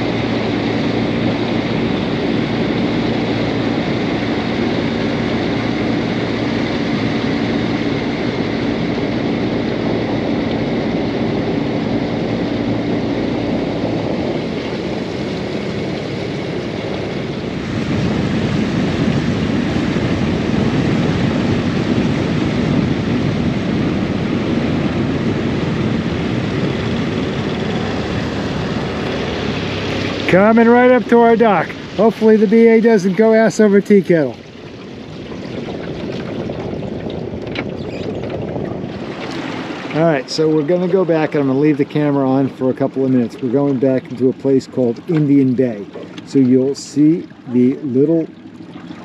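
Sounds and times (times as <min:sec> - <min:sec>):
outboard motor running: 0:00.0 - 0:49.0
water noise: 0:00.0 - 0:49.0
wind: 0:00.0 - 0:49.0.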